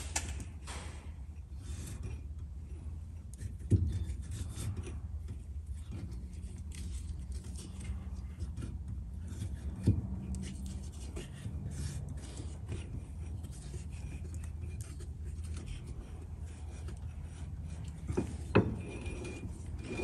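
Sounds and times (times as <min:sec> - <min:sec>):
steady low hum: 0:00.0 - 0:20.0
metal gears rubbing and scraping: 0:01.3 - 0:20.0.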